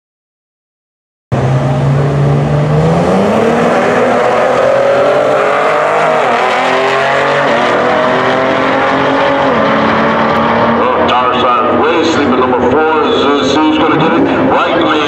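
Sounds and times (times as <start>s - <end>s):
car engines at full throttle: 1.3s - 15.0s.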